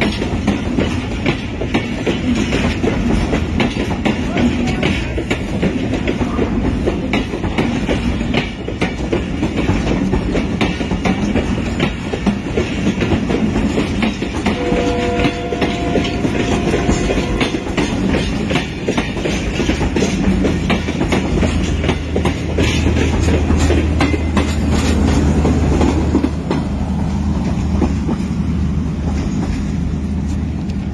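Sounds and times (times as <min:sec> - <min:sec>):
train wheels clicking over rail joints: 0:00.0 - 0:30.9.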